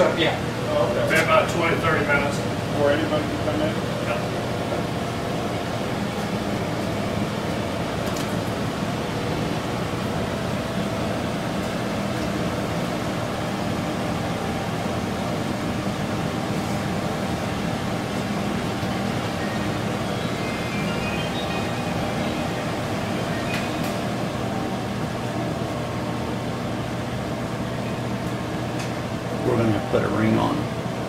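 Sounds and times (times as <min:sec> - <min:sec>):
fan rushing air with low hum: 0:00.0 - 0:31.0.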